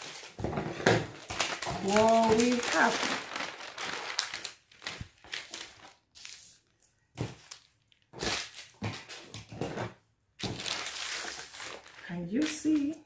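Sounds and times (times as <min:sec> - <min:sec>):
stiff paper rustling and crackling: 0:00.0 - 0:13.0.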